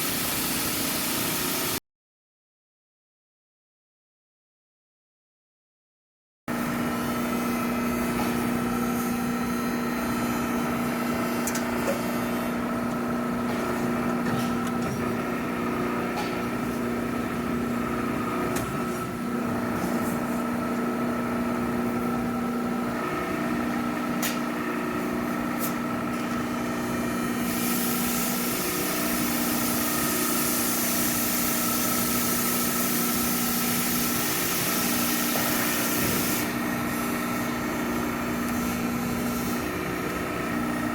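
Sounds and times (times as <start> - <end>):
machine tool humming: 6.5 - 40.9.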